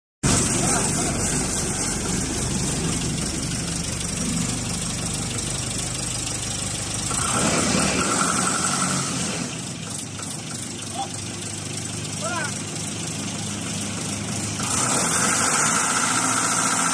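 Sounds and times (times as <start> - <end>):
diesel engine running: 0.2 - 16.9.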